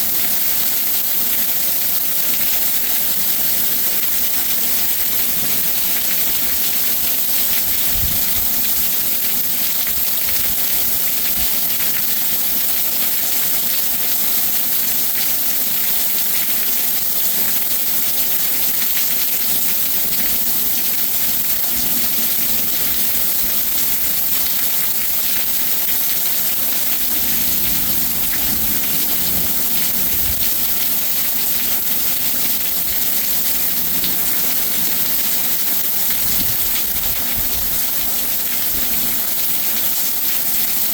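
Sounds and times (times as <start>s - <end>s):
heavy rain falling: 3.7s - 40.9s.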